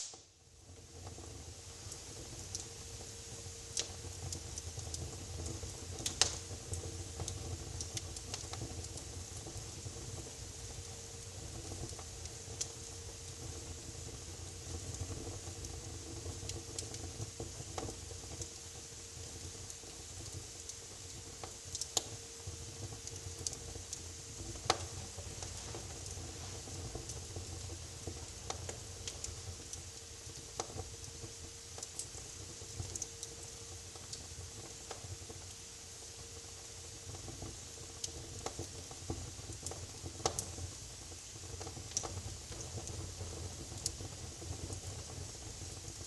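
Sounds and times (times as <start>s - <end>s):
faint steady hum: 0.0s - 46.0s
wood fire crackling: 0.0s - 46.0s.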